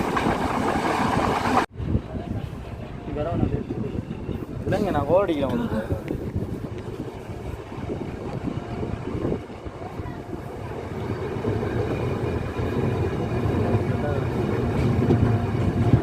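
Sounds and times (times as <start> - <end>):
train rumbling on board: 0.0 - 16.0.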